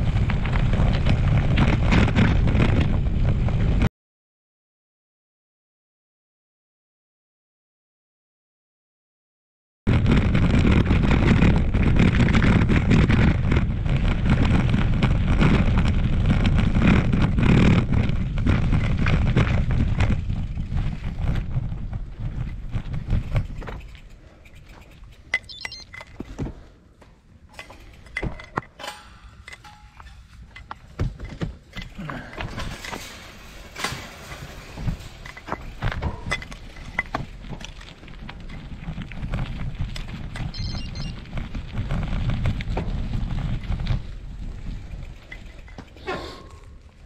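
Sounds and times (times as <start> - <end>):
bicycle tyres on gravel: 0.0 - 3.9, 9.9 - 47.0
gravel crunches and clicks: 0.0 - 3.9, 9.9 - 47.0.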